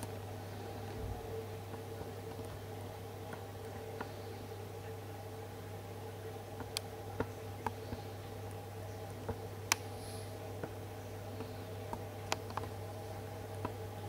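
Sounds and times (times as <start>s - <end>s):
camcorder electrical hum: 0.0s - 14.0s
faint steady tones: 0.0s - 14.0s.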